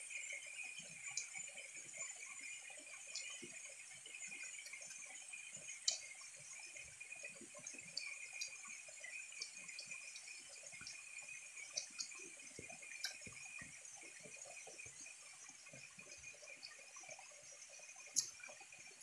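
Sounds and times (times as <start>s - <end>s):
stream water running over rocks: 0.0s - 19.0s.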